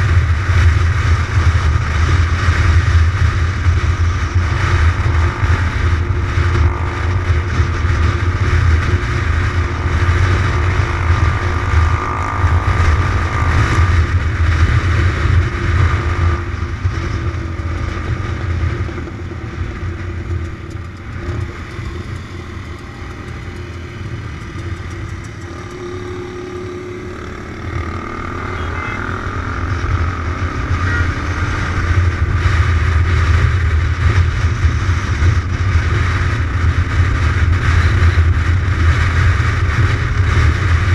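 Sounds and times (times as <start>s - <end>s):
heavy wind noise: 0.0s - 40.9s
motorcycle engine drone: 0.0s - 40.9s.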